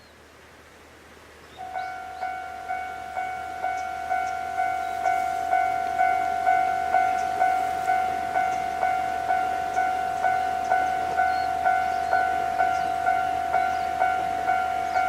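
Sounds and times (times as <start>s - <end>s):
level crossing bell ringing: 1.6s - 15.0s.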